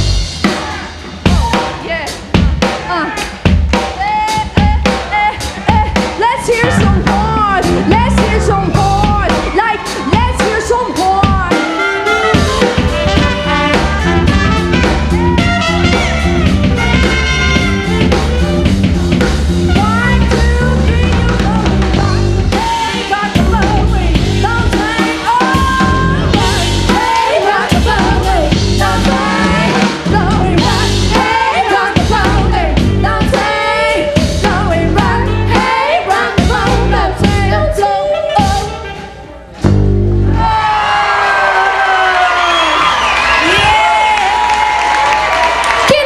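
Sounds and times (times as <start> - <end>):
bass line: 0.0 - 46.0
live band music: 0.0 - 46.0.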